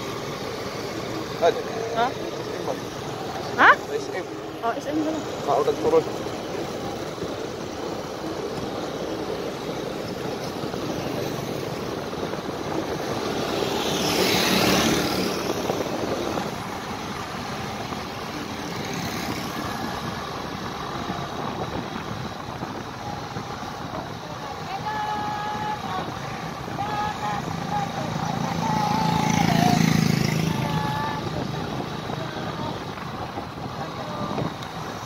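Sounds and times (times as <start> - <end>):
motorcycle engine and wind noise: 0.0 - 35.0.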